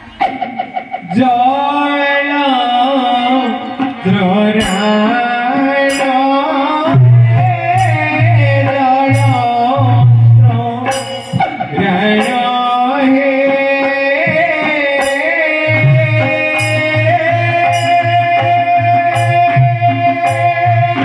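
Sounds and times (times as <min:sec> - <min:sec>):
sharp percussion strikes: 0:00.0 - 0:01.6, 0:03.2 - 0:21.0
percussion: 0:00.0 - 0:21.0
person singing a melody: 0:00.0 - 0:21.0
sustained accompaniment: 0:00.0 - 0:21.0.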